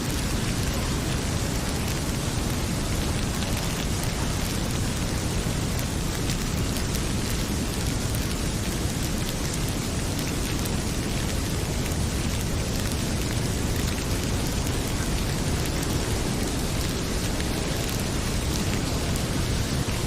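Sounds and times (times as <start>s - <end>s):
heavy rain falling: 0.0s - 20.0s
wood fire crackling: 0.0s - 20.0s.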